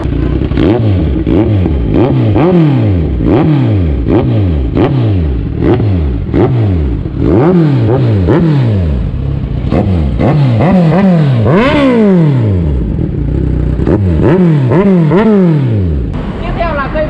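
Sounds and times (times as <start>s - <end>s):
motorcycle engine idling: 0.0s - 16.3s
motorcycle engine revving: 0.0s - 16.4s.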